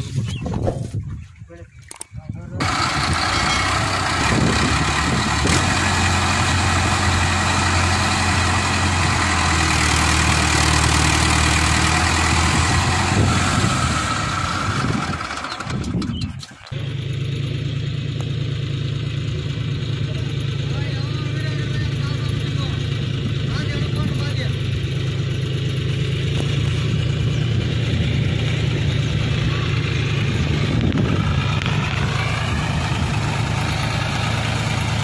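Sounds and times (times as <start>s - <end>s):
tractor engine running steadily: 0.0s - 35.0s
tractor diesel engine under load: 2.2s - 35.0s.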